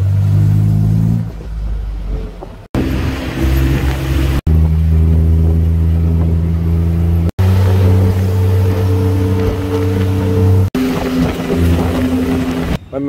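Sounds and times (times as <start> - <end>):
auto rickshaw engine running: 0.0 - 12.8.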